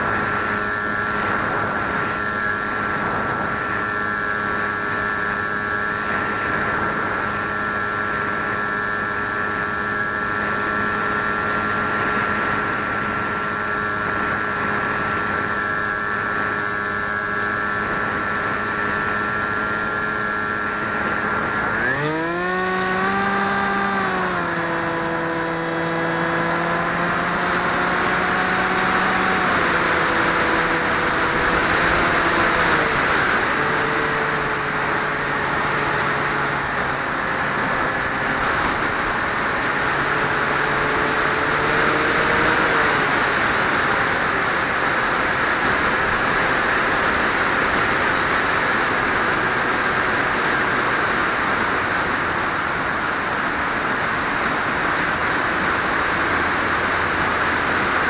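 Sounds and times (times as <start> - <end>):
electric motor and propeller: 0.0 - 58.0.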